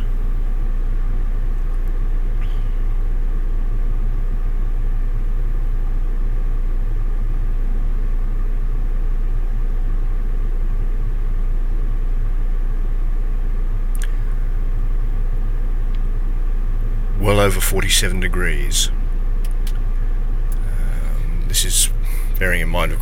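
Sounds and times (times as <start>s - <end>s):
fan blowing air through vents: 0.0s - 23.0s
low cabin rumble: 0.0s - 23.0s.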